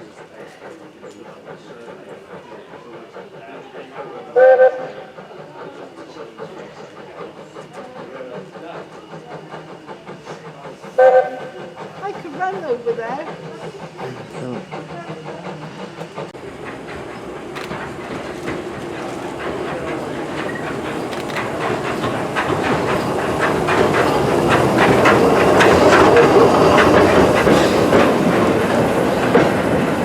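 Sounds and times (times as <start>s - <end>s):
train wheels clattering over rail joints: 5.2s - 30.0s.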